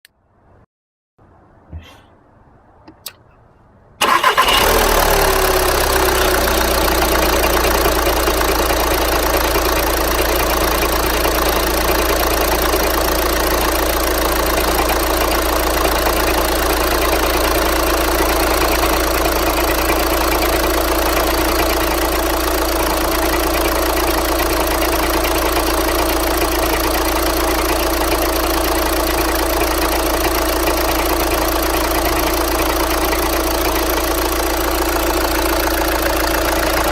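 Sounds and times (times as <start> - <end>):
diesel engine starting and idling: 4.0 - 36.9
engine knock: 4.0 - 36.9.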